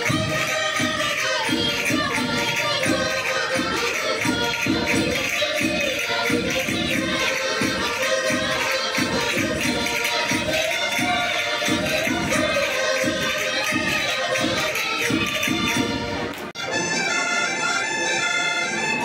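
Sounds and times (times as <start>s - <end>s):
steady drum beat: 0.0s - 16.2s
group singing together: 0.0s - 16.4s
folk band playing: 0.0s - 19.0s
jingling percussion: 0.0s - 19.0s.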